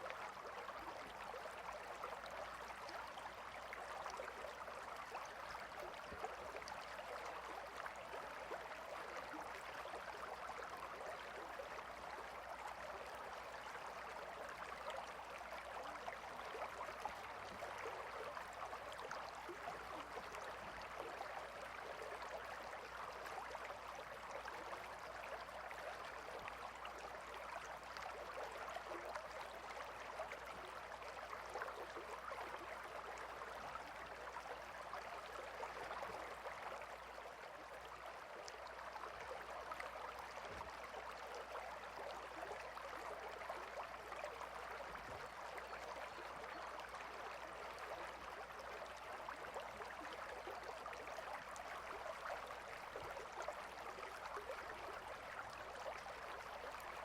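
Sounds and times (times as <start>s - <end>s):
shallow river flowing: 0.0s - 57.0s.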